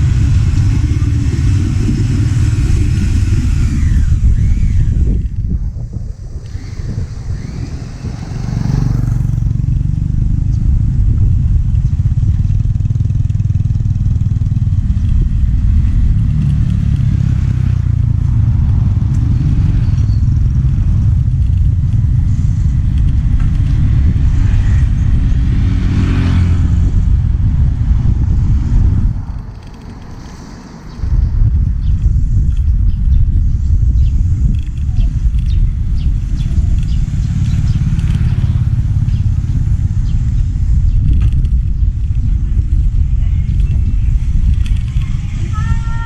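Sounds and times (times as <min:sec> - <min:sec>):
vehicle road noise: 0:00.0 - 0:46.0
wind rumble on microphone: 0:00.0 - 0:46.0.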